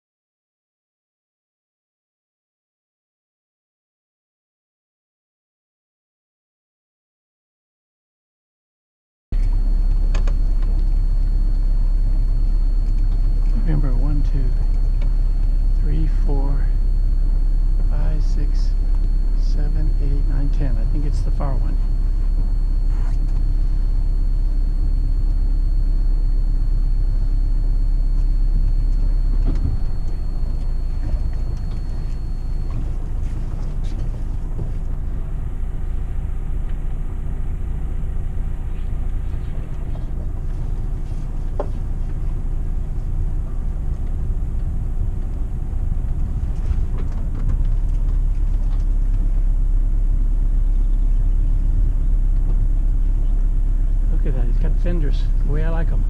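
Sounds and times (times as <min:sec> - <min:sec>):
boat engine low drone: 0:09.4 - 0:56.0.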